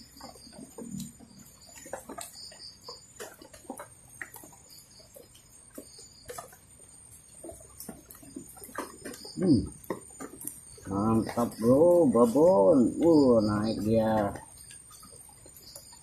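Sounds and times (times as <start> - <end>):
insect whine: 0.0 - 16.0
small clicks and ticks: 0.0 - 16.0.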